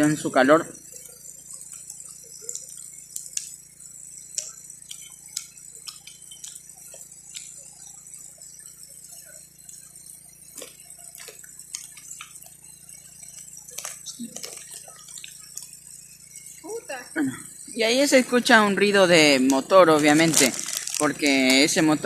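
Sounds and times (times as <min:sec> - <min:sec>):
campfire crackling and popping: 0:00.0 - 0:22.0
generator engine humming: 0:00.0 - 0:22.0.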